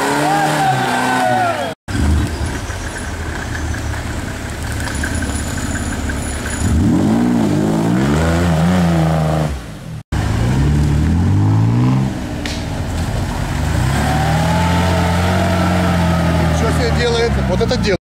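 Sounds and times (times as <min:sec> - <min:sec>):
off-road vehicle engines revving: 0:00.0 - 0:18.0.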